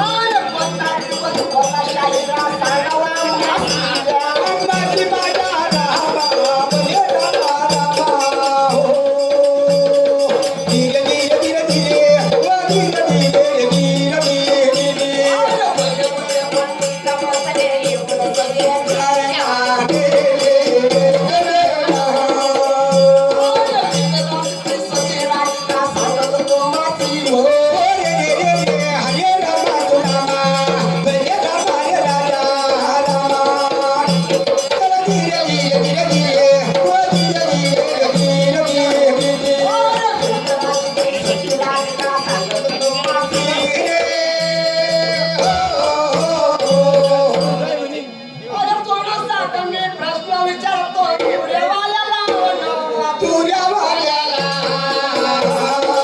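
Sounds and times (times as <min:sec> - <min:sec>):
jingling percussion: 0:00.0 - 0:56.0.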